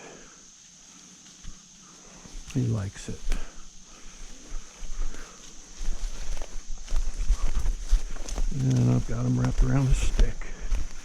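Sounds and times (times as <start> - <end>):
footsteps through undergrowth: 0.4 - 11.0.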